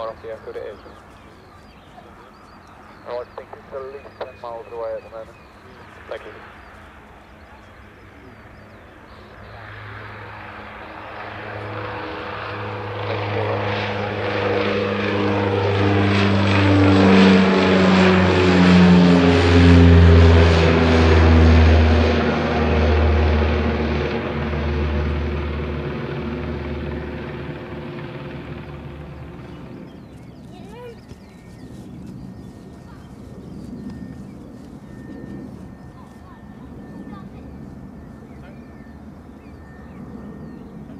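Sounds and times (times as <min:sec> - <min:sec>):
turboprop airliner flying past: 0:00.0 - 0:40.9.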